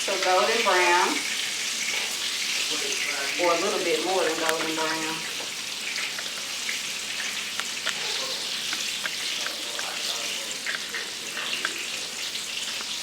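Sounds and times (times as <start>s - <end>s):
chicken frying in a pan: 0.0s - 13.0s.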